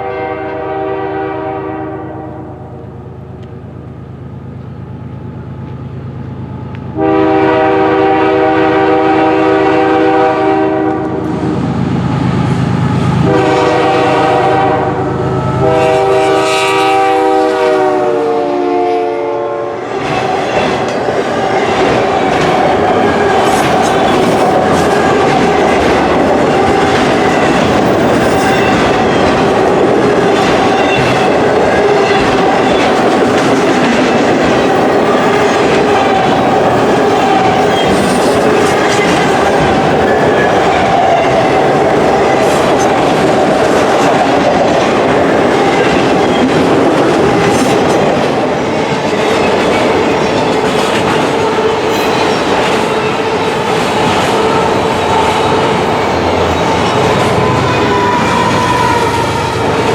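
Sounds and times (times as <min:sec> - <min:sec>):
train wheels on track: 0:00.0 - 0:59.9.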